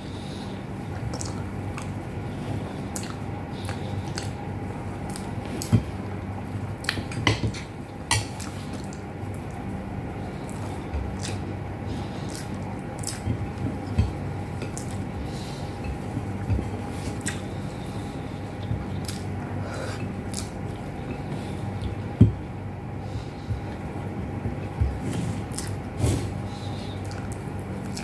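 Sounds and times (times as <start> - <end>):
steady low hum: 0.0 - 28.0
close chewing and mouth sounds: 0.8 - 28.0.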